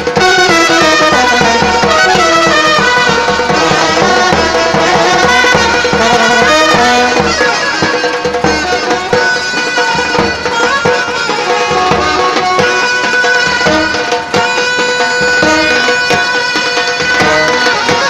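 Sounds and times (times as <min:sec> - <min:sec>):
brass band melody: 0:00.0 - 0:18.0
steady drum beat: 0:00.0 - 0:18.0.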